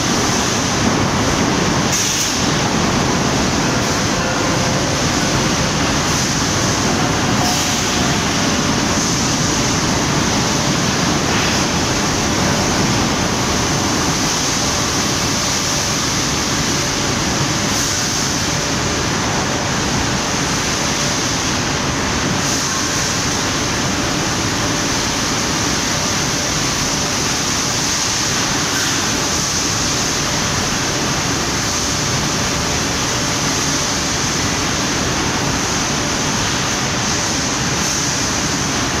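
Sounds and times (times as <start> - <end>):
rolling mill machinery din: 0.0 - 39.0.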